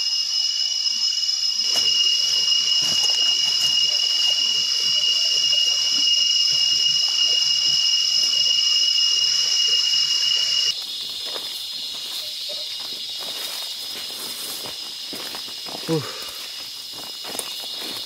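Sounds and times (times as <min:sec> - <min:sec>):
cicadas droning: 0:00.0 - 0:18.0.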